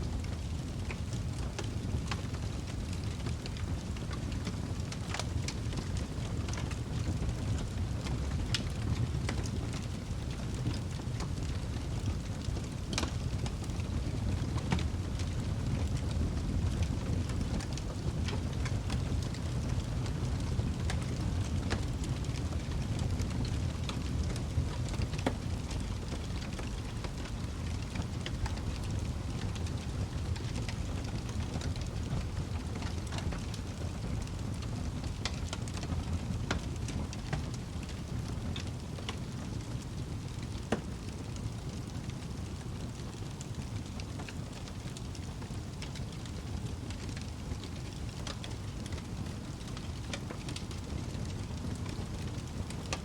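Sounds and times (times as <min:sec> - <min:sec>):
logs crackling and popping: 0:00.0 - 0:53.0
low rumble of flames: 0:00.0 - 0:53.0.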